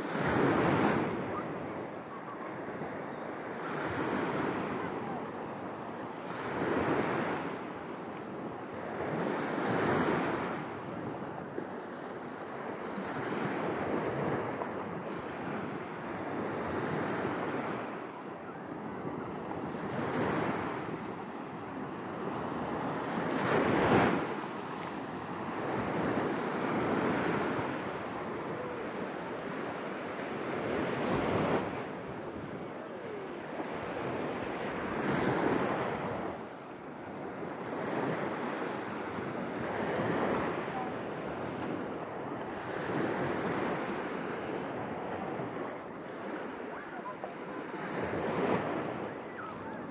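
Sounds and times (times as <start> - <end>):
small waves washing up on beach: 0.0 - 49.9.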